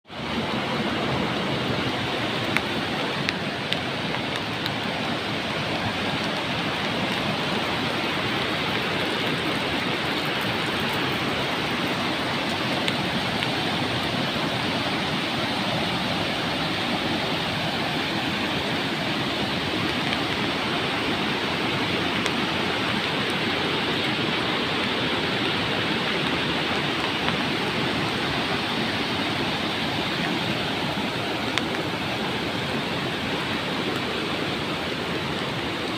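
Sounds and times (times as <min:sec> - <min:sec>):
fast water roaring over rocks: 0:00.0 - 0:35.9.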